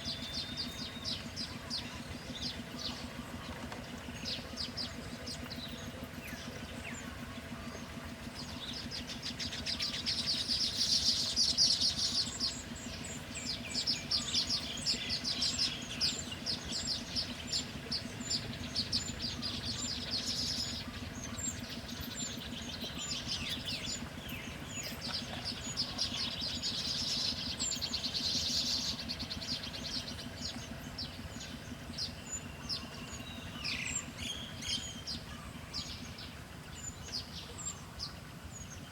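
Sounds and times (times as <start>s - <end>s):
songbirds chirping: 0.0s - 38.9s
steady low hum: 0.0s - 38.9s.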